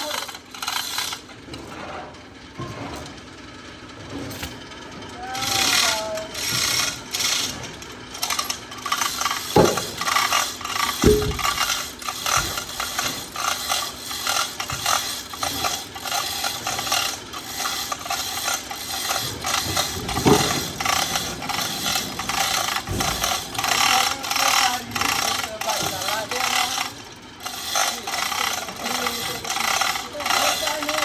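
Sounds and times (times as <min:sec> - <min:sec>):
debarking machine clatter: 0:00.0 - 0:01.9, 0:04.3 - 0:31.0.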